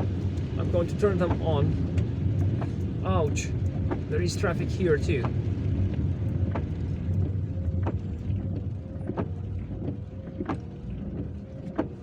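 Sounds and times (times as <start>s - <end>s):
car engine and road rumble: 0.0s - 12.0s
light ticking: 0.0s - 12.0s.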